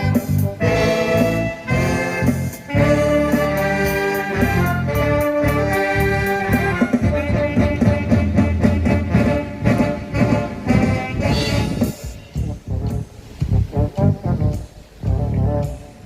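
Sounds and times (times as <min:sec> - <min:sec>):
live band with brass and saxophone: 0:00.0 - 0:16.0
steady bass beat: 0:00.0 - 0:16.0.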